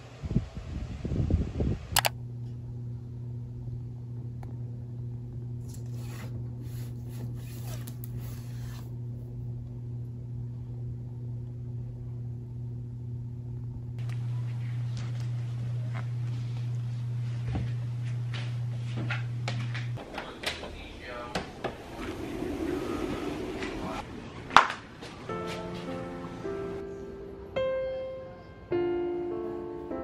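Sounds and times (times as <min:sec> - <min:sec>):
low hum: 0:00.0 - 0:28.7.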